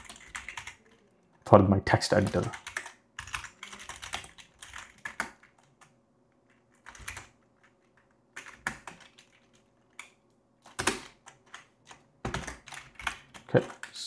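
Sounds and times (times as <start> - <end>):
typing on a keyboard: 0.0 - 1.1, 2.1 - 14.0.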